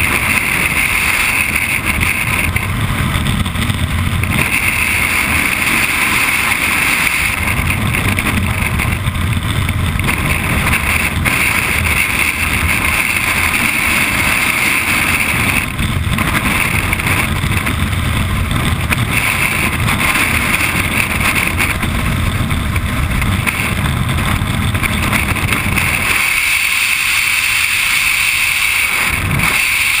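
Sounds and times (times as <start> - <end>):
wind roaring over microphone: 0.0 - 30.0.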